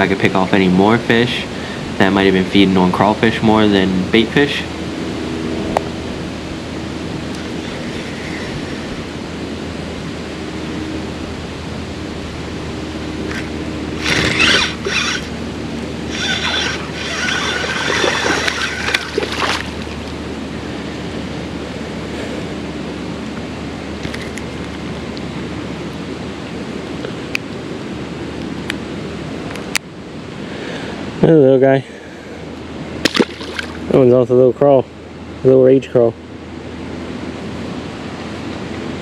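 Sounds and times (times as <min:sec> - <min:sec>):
creek water rushing: 0:00.0 - 0:34.1.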